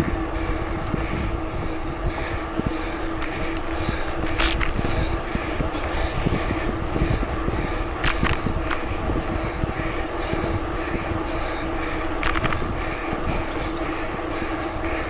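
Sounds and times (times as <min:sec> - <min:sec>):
bicycle tyre noise: 0:00.0 - 0:15.0
steady hum: 0:00.0 - 0:15.0
wind buffeting microphone: 0:00.0 - 0:15.0.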